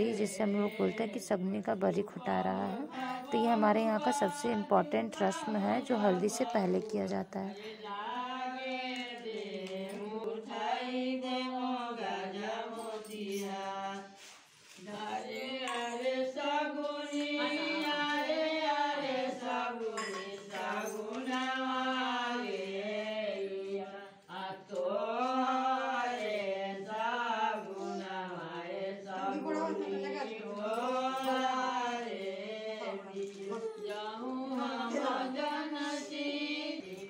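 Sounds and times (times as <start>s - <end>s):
women singing unaccompanied: 0.0s - 37.0s.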